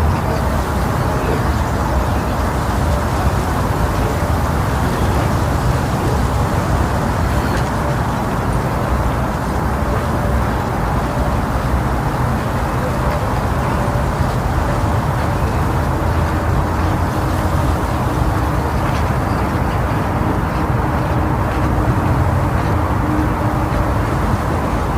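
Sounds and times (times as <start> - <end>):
wind rumbling on microphone: 0.0 - 24.9.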